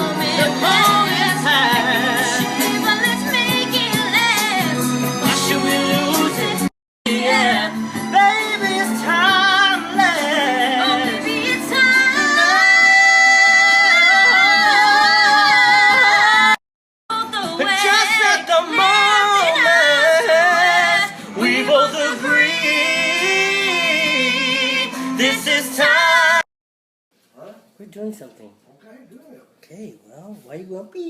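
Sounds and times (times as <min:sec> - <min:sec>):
backing music: 0:00.0 - 0:26.4
woman singing a ballad: 0:00.0 - 0:26.4.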